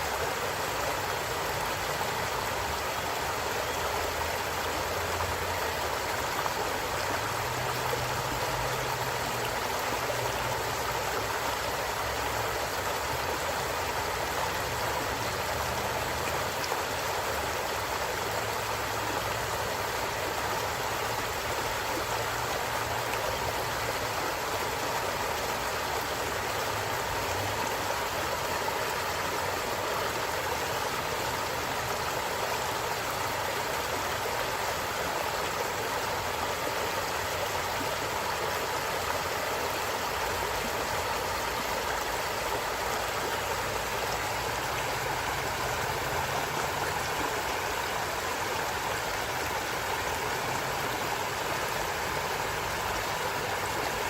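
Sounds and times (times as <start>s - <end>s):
stream rushing and gurgling: 0.0s - 54.0s.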